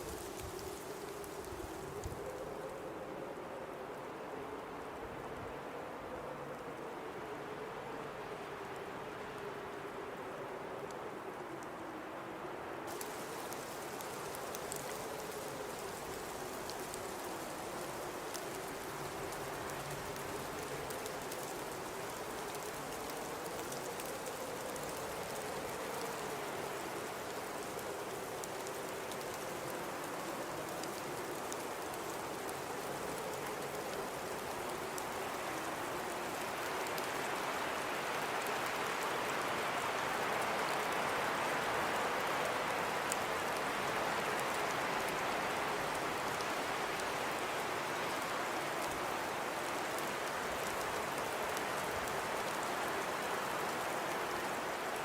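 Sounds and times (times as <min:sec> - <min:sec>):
howling blizzard wind: 0:00.0 - 0:55.0.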